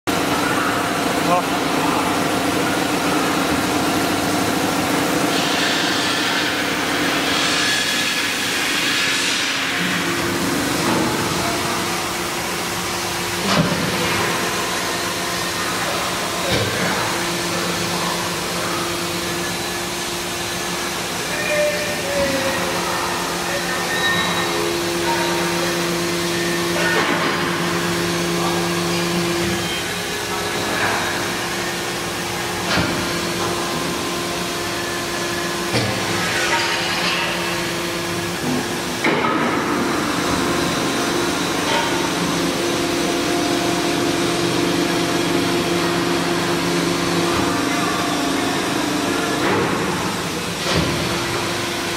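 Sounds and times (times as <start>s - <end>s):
hydraulic press pump humming: 0.1s - 51.9s.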